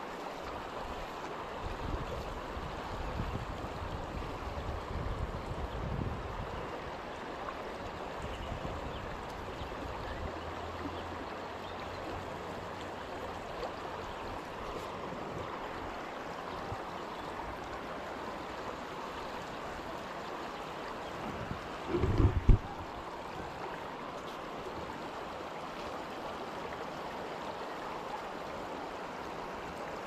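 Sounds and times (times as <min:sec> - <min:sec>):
river flowing over rocks: 0:00.0 - 0:30.0.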